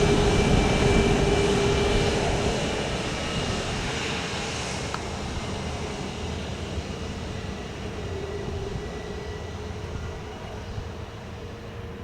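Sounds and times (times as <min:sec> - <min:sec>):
jet engine whine: 0:00.0 - 0:12.0
jet engines running: 0:00.0 - 0:12.0.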